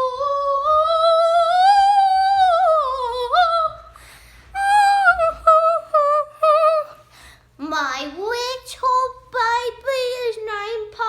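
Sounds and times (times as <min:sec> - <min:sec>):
girl singing wordlessly: 0:00.0 - 0:11.0.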